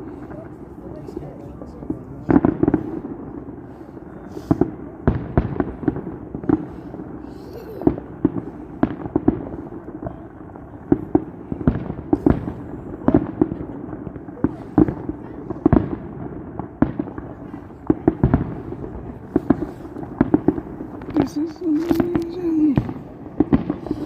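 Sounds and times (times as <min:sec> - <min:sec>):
distant fireworks rumble: 0:00.0 - 0:24.0
fireworks bangs and cracks: 0:00.0 - 0:24.0.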